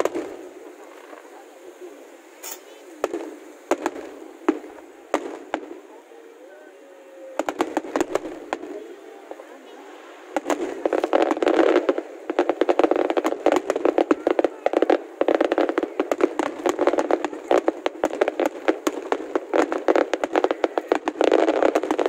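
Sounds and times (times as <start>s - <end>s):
fireworks crackling and popping: 0.0s - 6.4s, 7.1s - 22.0s.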